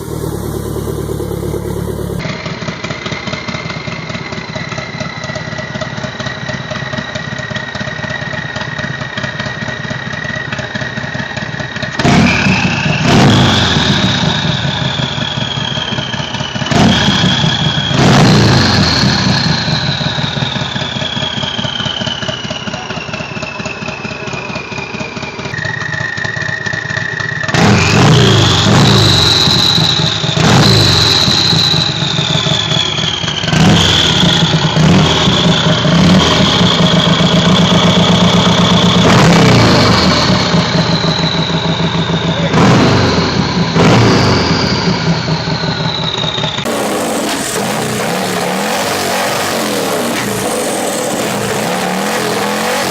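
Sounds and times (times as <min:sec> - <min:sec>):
turbo whistle: 0:00.0 - 0:02.2, 0:12.1 - 0:52.9
motorcycle engine revving: 0:00.0 - 0:52.9.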